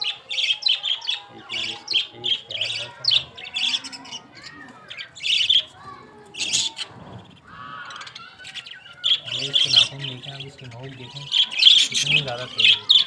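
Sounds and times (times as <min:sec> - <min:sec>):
parakeets chirping and squawking: 0:00.0 - 0:13.0.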